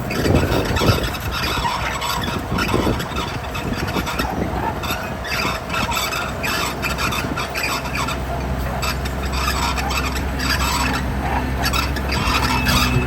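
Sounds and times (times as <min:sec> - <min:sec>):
heavy machine engine running: 0:00.0 - 0:13.0
metallic squealing and scraping: 0:00.0 - 0:13.0.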